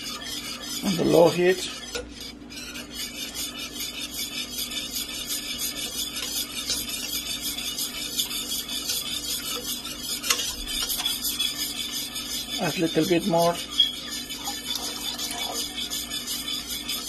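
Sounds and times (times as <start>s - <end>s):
whisk scraping in metal pot: 0.0s - 17.0s.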